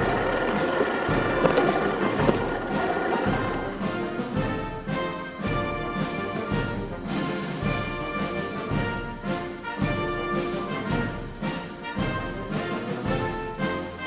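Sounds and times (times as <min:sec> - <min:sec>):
orchestral music with steady beat: 0:00.0 - 0:14.0.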